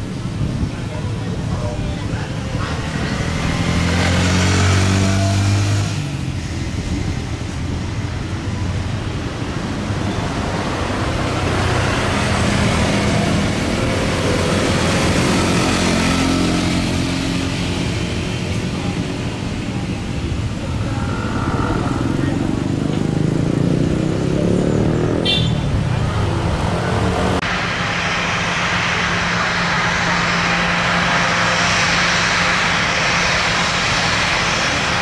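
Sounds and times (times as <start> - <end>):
low steady engine hum: 0.0 - 35.0
rush of passing vehicles: 0.0 - 35.0.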